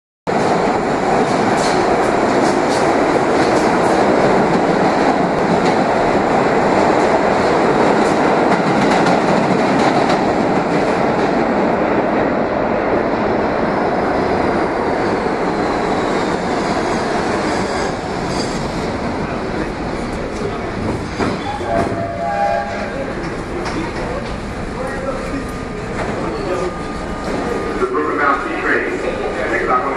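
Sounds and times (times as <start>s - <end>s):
subway train wheels rumbling: 0.3s - 29.9s.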